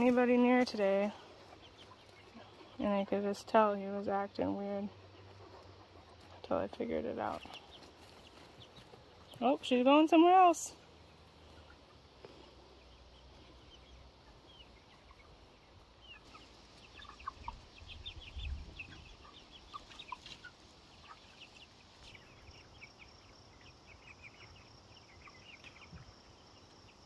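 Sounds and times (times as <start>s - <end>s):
chicks peeping and clucking: 0.0s - 27.0s.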